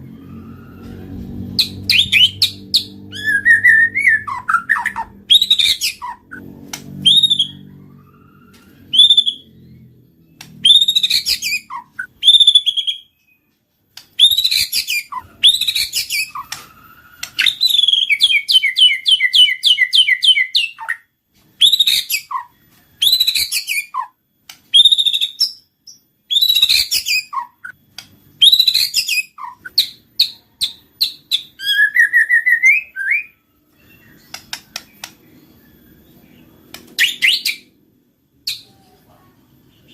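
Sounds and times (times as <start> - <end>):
bird singing whistles and chirps: 0.2 - 6.4, 7.0 - 37.8.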